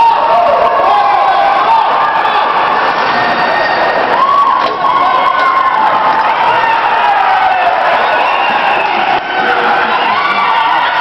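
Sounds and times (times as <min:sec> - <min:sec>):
crowd of kids shouting and cheering: 0:00.0 - 0:11.0.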